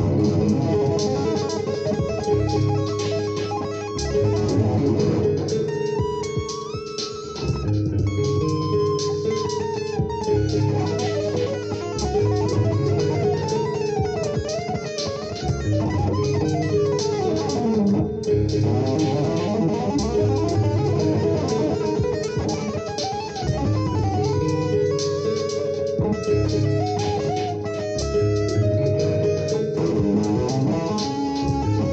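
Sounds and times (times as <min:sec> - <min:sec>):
electric guitar tapping: 0:00.0 - 0:31.9.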